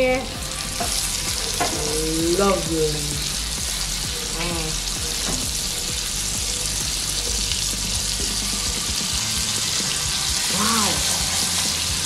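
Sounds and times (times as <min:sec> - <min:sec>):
prawns sizzling in a frying pan: 0:00.0 - 0:12.0.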